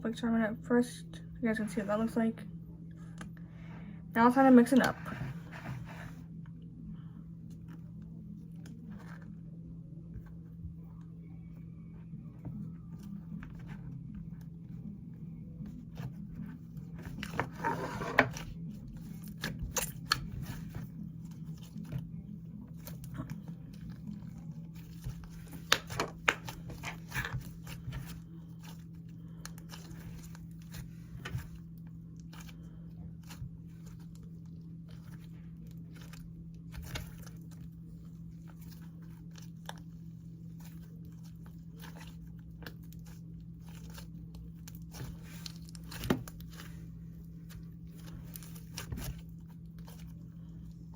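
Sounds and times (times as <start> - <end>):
low hum: 0.0 - 50.9.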